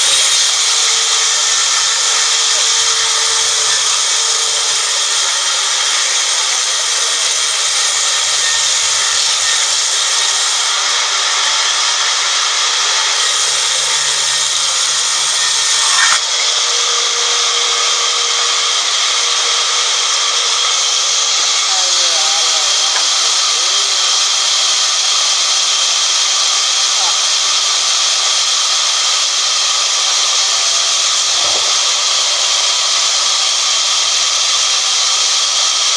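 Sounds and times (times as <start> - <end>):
band saw blade whining in wood: 0.0 - 35.9.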